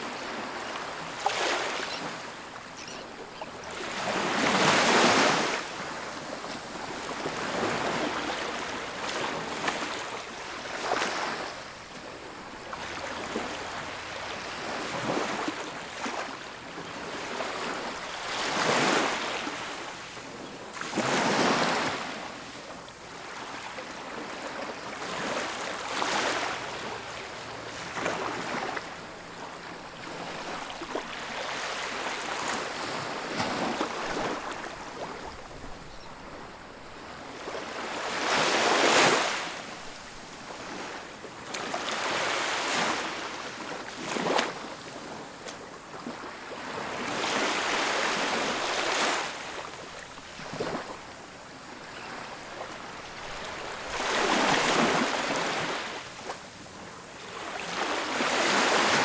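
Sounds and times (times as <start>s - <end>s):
ocean waves breaking: 0.0s - 11.5s, 12.2s - 20.0s, 23.2s - 51.1s, 51.7s - 56.4s, 57.2s - 59.0s.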